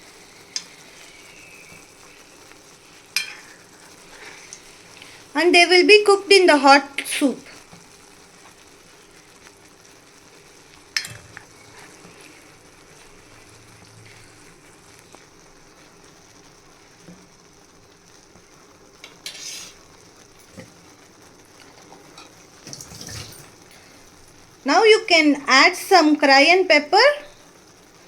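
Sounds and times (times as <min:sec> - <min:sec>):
soup simmering in a pot: 0:00.0 - 0:26.2, 0:27.0 - 0:28.0.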